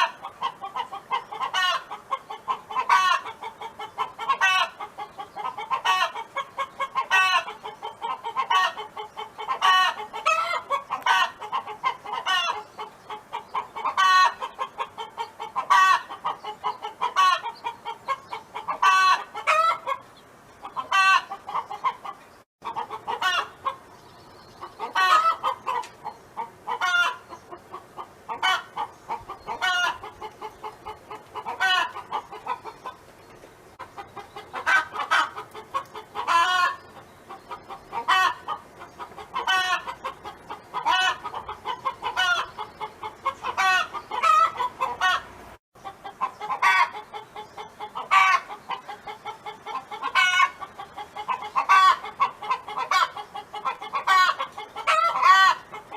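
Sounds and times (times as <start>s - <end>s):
hen clucking and calling: 0.0s - 55.9s.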